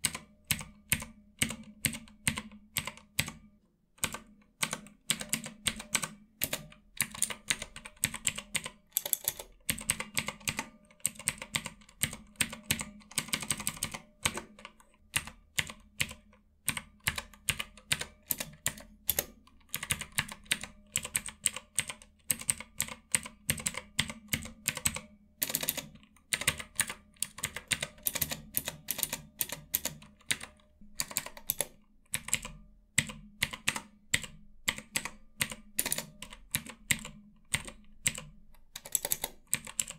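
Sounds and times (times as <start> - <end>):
clicky keyboard keystrokes: 0.0 - 3.4, 4.0 - 39.9.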